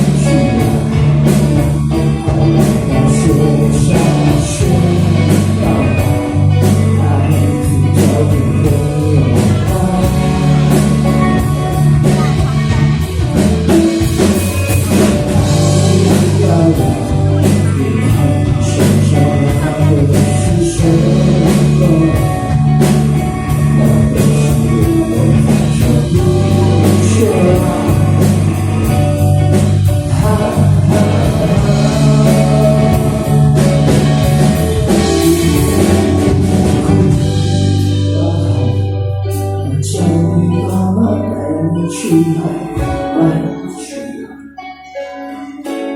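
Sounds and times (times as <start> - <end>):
drum kit: 0.0 - 44.2
electric guitar: 0.0 - 45.9
person singing: 0.0 - 45.9.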